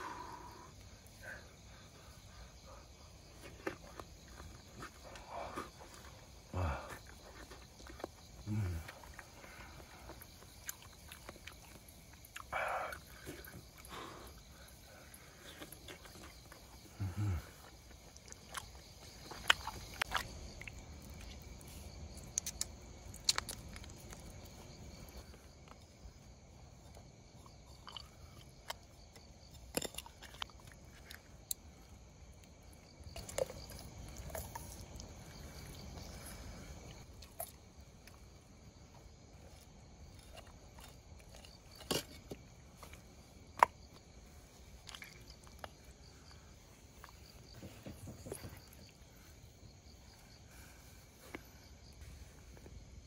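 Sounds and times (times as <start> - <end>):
person chewing and crunching: 3.2 - 50.4.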